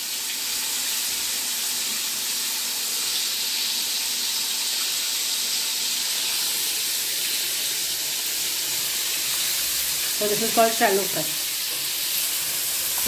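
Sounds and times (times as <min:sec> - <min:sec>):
fish deep-frying in hot oil: 0:00.0 - 0:13.0.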